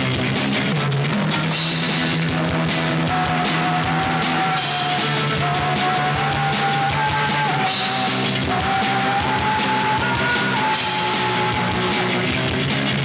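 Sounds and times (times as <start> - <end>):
rock band music: 0.0 - 13.0.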